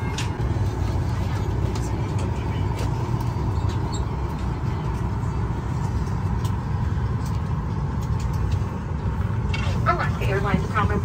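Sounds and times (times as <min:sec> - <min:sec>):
low rumble of terminal noise: 0:00.0 - 0:11.0.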